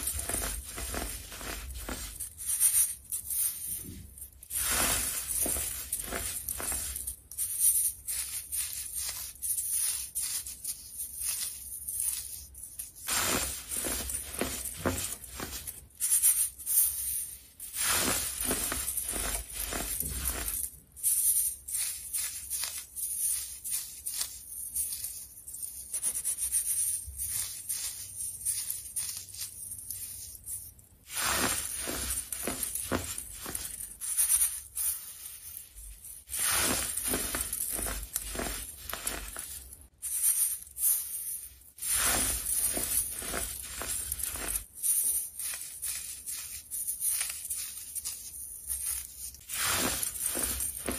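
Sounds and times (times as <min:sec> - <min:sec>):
baking soda crunching through sieve: 0:00.0 - 0:25.3, 0:31.0 - 0:50.9.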